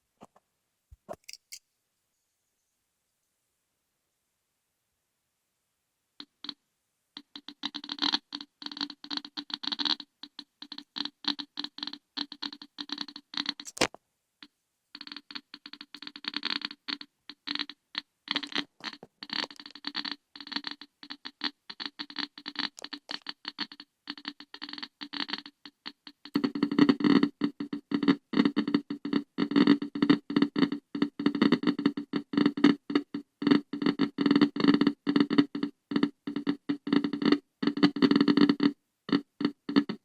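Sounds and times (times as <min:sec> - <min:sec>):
geiger counter clicking: 0:06.2 - 0:06.6, 0:07.2 - 0:14.0, 0:15.0 - 0:40.0.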